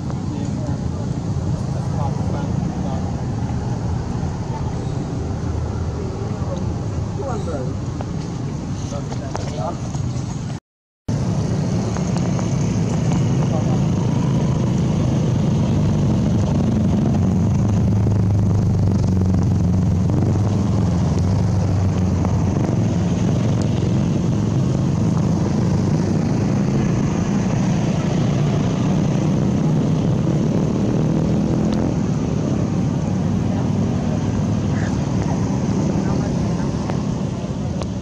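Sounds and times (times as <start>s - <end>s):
engine running low rumble: 0.0s - 38.0s.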